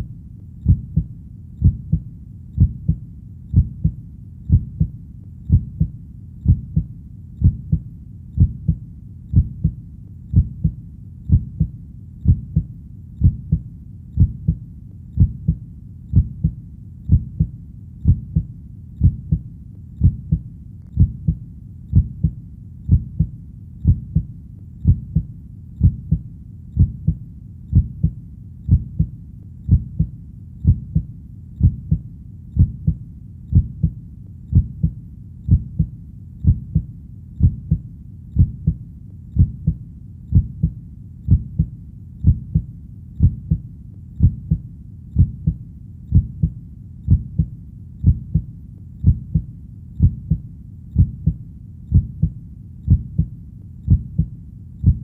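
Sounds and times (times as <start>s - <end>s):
heartbeat thumps: 0.0s - 55.0s.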